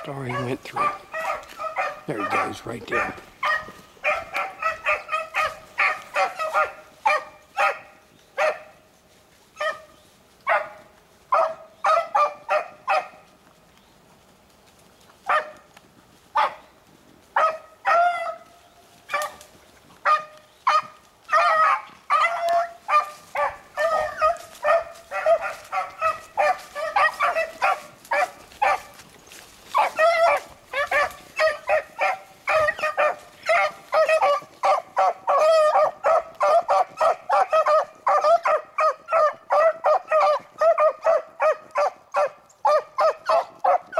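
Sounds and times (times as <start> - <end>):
hounds baying: 0.0 - 8.8, 9.6 - 13.3, 15.2 - 15.7, 16.3 - 43.9.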